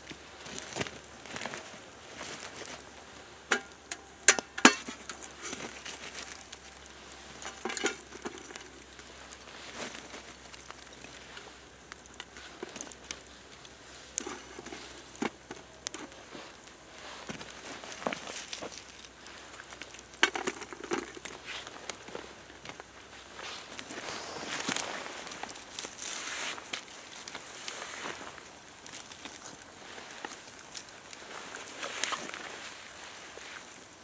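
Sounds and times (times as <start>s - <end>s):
campfire crackling and hissing: 0.0s - 34.0s
hot coals clicking and scraping: 0.0s - 34.0s.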